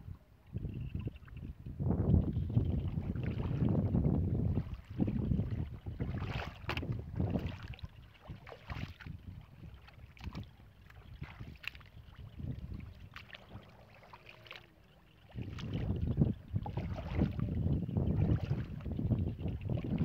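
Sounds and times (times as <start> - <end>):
wind buffeting microphone: 0.0 - 13.9, 15.3 - 20.0.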